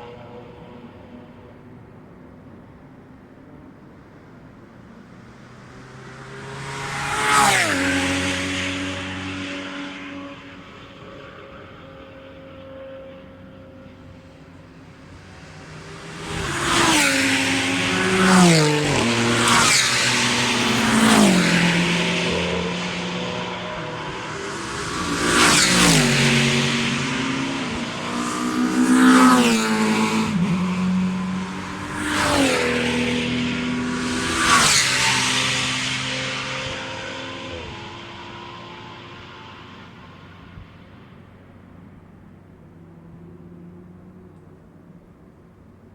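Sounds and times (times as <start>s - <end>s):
distant engine drone: 0.0s - 45.8s
engines downshifting: 0.0s - 45.9s
race cars passing: 0.0s - 45.9s.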